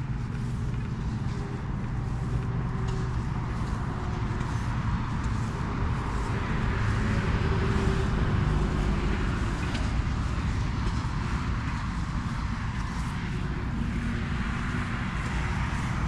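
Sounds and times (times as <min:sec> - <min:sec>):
engine running with low hum: 0:00.0 - 0:16.0.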